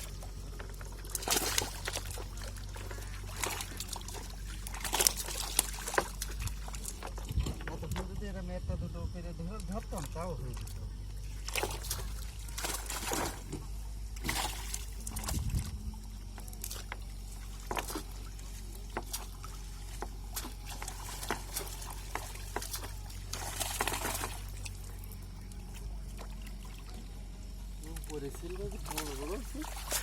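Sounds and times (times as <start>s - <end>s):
water splashing and trickling: 0.0s - 30.0s.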